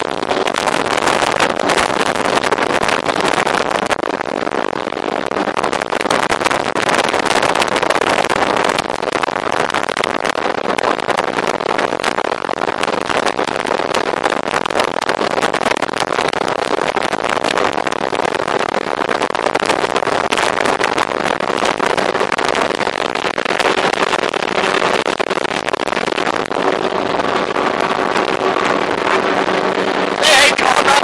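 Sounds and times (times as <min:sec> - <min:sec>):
hull slapping waves: 0:00.0 - 0:31.0
outboard engine drone: 0:00.0 - 0:31.0
rush of water and wind: 0:00.0 - 0:31.0.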